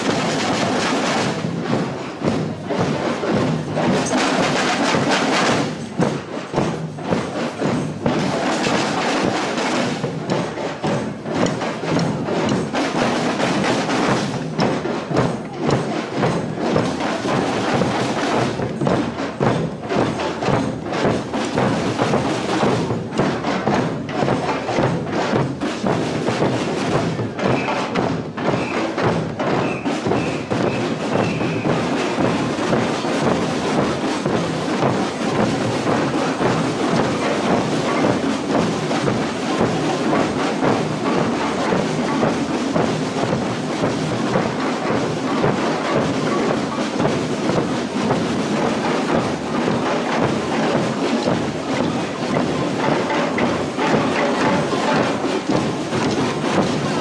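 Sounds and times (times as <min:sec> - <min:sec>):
percussion band drumming: 0:00.0 - 0:57.0.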